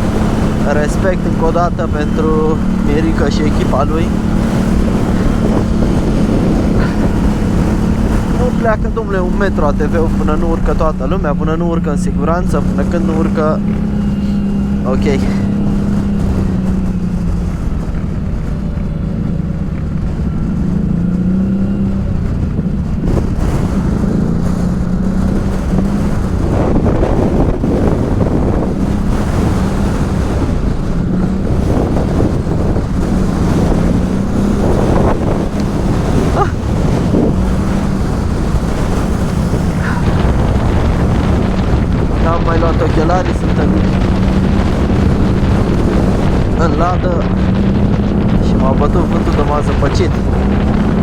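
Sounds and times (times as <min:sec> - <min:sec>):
atv engine running: 0:00.0 - 0:51.0
wind buffeting microphone: 0:00.0 - 0:51.0.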